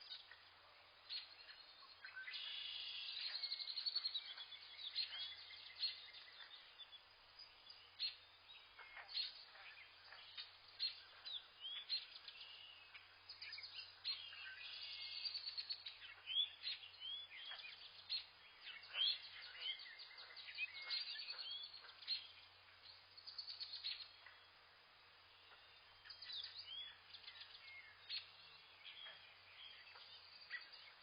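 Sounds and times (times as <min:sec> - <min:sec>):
faint steady low hum: 0:00.0 - 0:31.0
wild birds chirping: 0:00.0 - 0:31.0.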